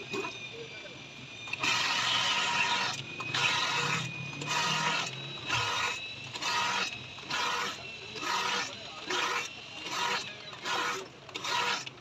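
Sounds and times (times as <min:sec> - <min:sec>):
faint high motor whine: 0:00.0 - 0:12.0
boring machine grinding: 0:01.4 - 0:12.0.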